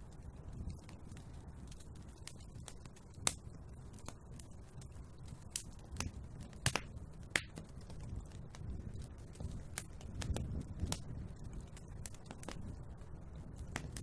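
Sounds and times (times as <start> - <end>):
low rumble of burning wood: 0.0 - 14.0
wood fire crackling and popping: 0.0 - 14.0.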